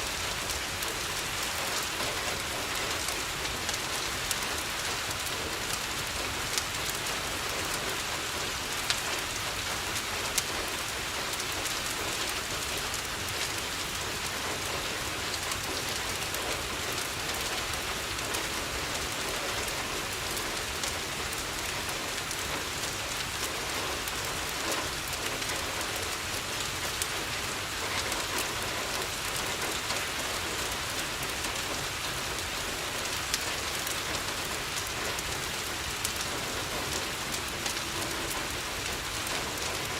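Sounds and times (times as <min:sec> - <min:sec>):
rain on a window: 0:00.0 - 0:39.9
wood fire crackling: 0:00.0 - 0:39.9.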